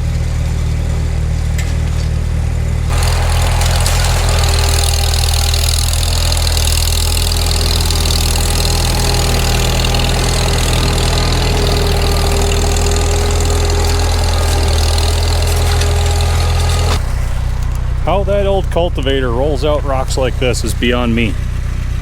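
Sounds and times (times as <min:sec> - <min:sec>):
tractor engine running steadily: 0:00.0 - 0:22.0.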